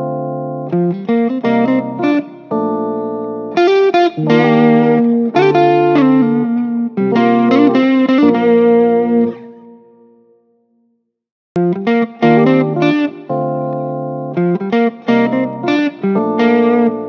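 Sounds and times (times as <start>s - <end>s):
background music with held notes: 0.0s - 10.4s, 11.6s - 17.0s.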